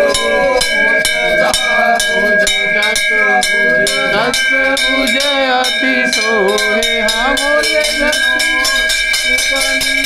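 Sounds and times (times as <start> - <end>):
crowd shouting: 0.0 - 8.8
temple bells ringing: 0.0 - 10.0.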